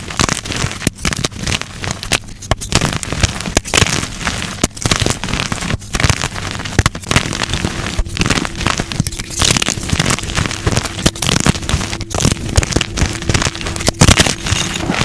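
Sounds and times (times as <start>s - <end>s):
chalk crunching and snapping: 0.0s - 15.0s.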